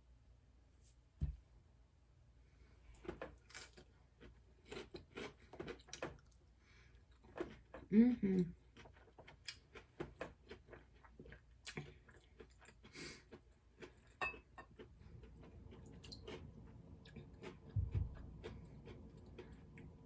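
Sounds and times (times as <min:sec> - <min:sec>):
chewing food: 0:03.0 - 0:07.9, 0:08.5 - 0:20.0.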